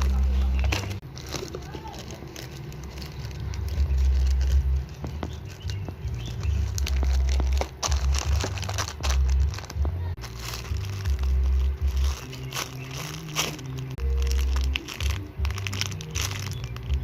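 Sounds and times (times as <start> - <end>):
squishy toy crinkling: 0.0 - 17.0.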